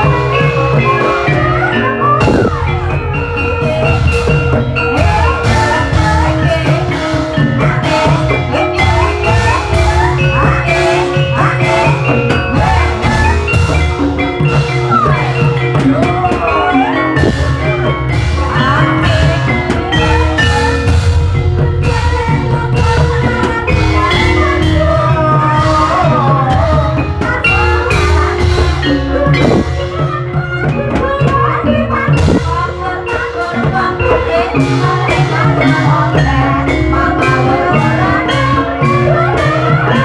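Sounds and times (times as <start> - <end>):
busy drum pattern: 0.0 - 40.0
gamelan ensemble: 0.0 - 40.0
gliding melodic lines: 0.0 - 40.0
struck metal keys melody: 0.0 - 40.0.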